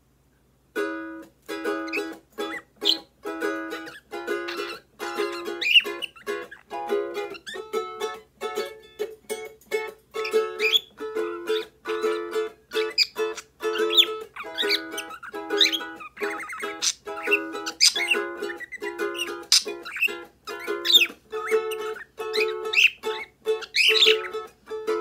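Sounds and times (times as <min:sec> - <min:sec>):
ukulele strumming chords: 0:00.7 - 0:25.0
pet birds chirping: 0:01.7 - 0:25.0.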